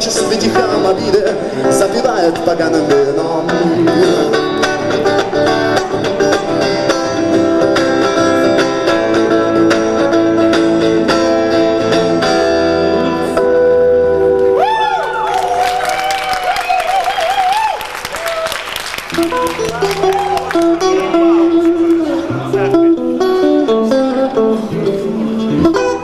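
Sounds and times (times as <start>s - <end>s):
electric guitar picking: 0.0s - 15.2s, 19.0s - 26.0s.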